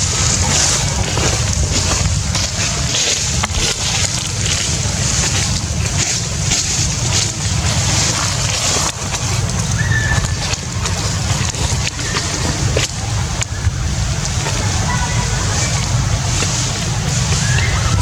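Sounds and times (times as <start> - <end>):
hiss: 0.0 - 18.0
low rumble: 0.0 - 18.0.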